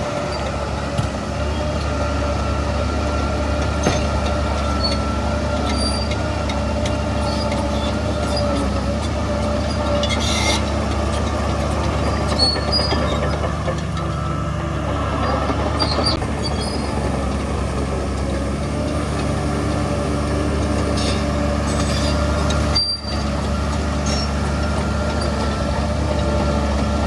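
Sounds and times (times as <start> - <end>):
bulldozer diesel drone: 0.0 - 27.0
metallic squeaks of crawler tracks: 2.5 - 17.5, 19.2 - 27.0.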